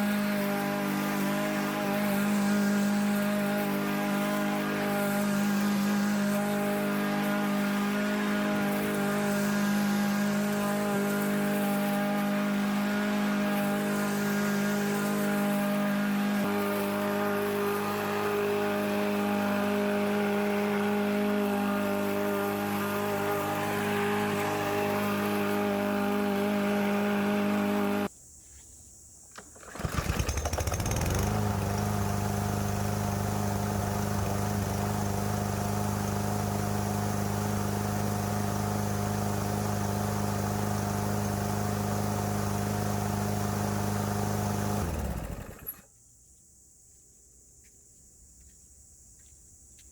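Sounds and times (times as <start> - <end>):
lawn mower engine running: 0.0 - 28.1, 29.3 - 45.9.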